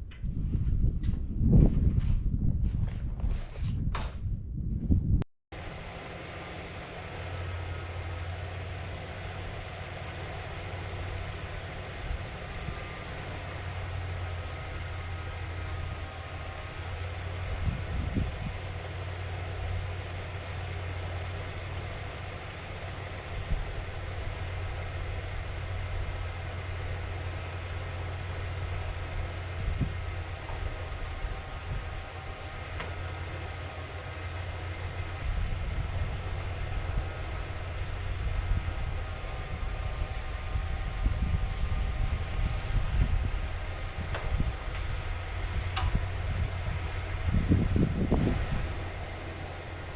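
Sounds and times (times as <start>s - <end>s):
engine running: 5.5s - 49.9s.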